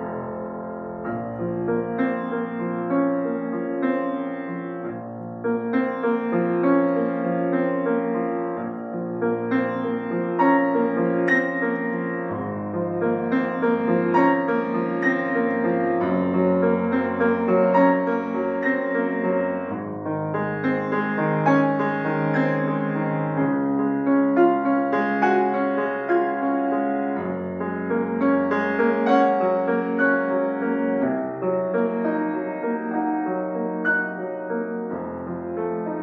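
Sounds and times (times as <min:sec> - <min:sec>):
solo piano playing: 0:00.0 - 0:36.0.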